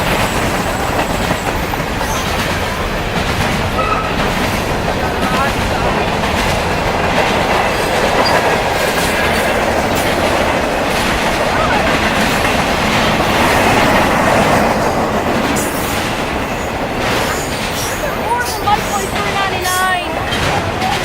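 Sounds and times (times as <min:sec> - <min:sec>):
train clanks: 0:00.0 - 0:21.0
train wheels on rails: 0:00.0 - 0:21.0.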